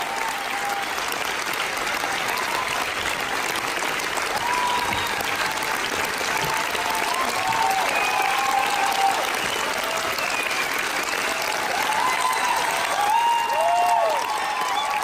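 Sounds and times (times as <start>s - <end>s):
audience applauding: 0.0s - 15.0s
voices cheering: 0.0s - 15.0s.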